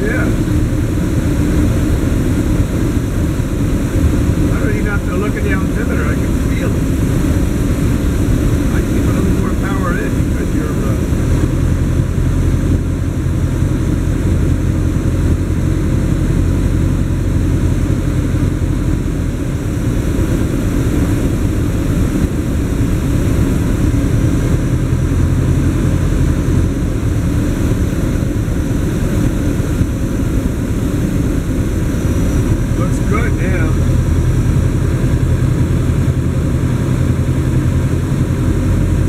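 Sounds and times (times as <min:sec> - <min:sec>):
low hum: 0:00.0 - 0:39.0
propeller airplane engine running: 0:00.0 - 0:39.0
rushing noise: 0:00.0 - 0:39.0.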